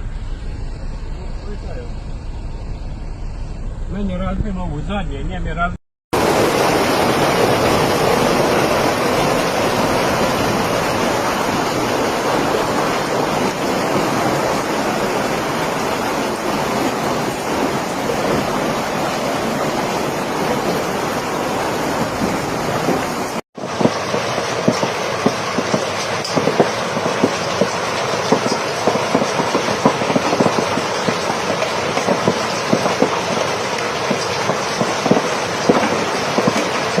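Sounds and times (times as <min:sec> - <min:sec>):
heavy hail falling: 0:06.1 - 0:37.0.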